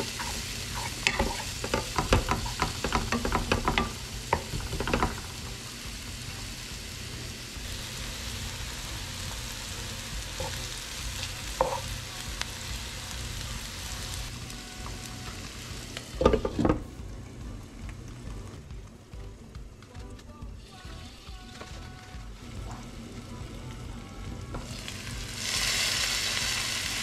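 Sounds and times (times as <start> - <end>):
vegetables sizzling in oil: 0.0 - 18.2, 20.6 - 27.0.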